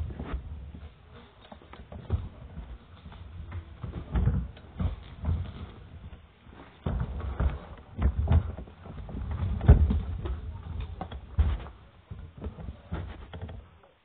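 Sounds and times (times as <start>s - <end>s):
knocks and thumps of handling: 0.0s - 14.0s
rustling: 0.0s - 14.0s.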